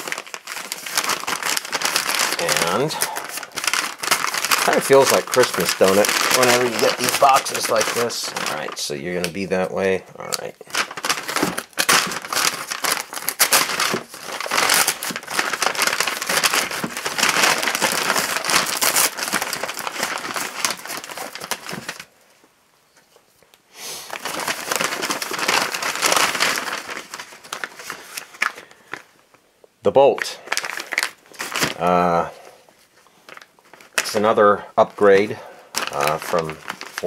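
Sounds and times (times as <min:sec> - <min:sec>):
envelope crinkling by hand: 0:00.0 - 0:22.1, 0:24.0 - 0:29.4, 0:30.2 - 0:37.0.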